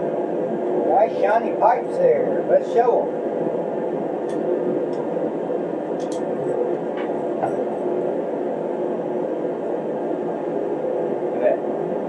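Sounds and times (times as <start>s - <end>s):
space heater blowing: 0.0s - 12.0s.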